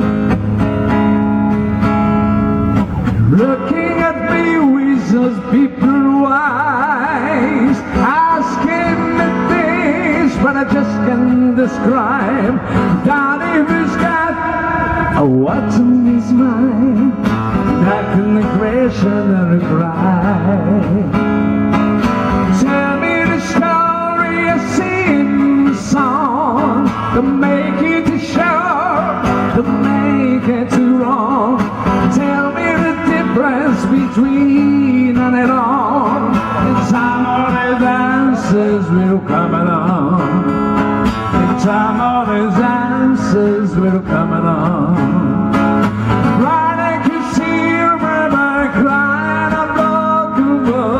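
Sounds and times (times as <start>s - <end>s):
guitar accompaniment: 0.0s - 50.9s
man singing with vibrato: 0.0s - 50.9s.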